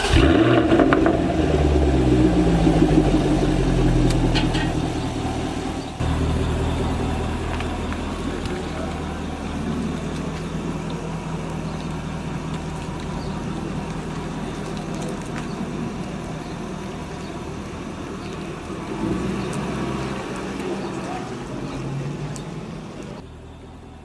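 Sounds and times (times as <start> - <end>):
car engine running: 0.0 - 24.0
traffic and street noise: 0.0 - 24.0.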